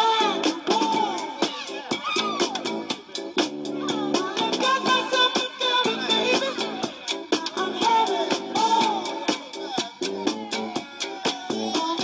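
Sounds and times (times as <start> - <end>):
dance music with drum beat: 0.0 - 12.0.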